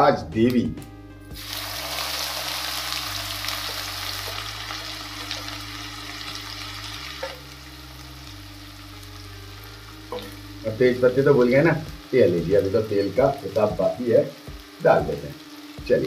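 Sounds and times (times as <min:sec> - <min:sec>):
onion sizzling in hot fat: 0:01.3 - 0:16.0.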